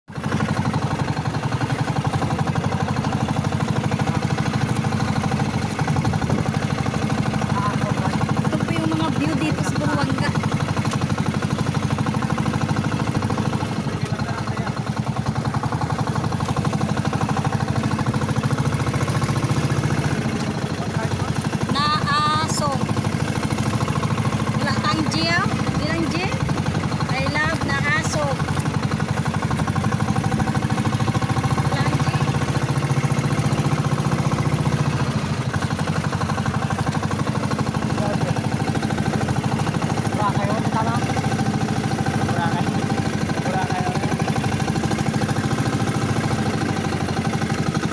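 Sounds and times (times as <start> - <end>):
boat engine chugging: 0.1 - 47.9.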